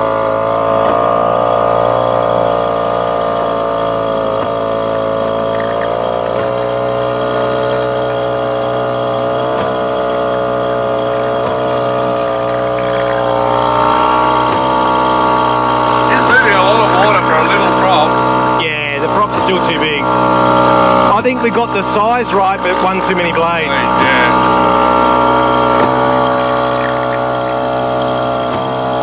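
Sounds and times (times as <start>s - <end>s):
small outboard motor running: 0.0s - 29.0s.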